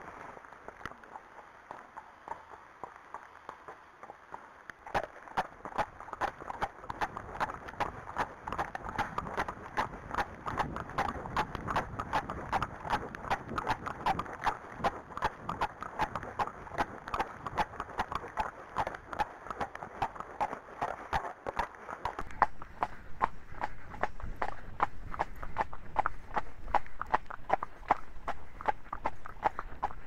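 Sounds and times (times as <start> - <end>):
horse hooves clip-clopping on tarmac: 0.0 - 30.0.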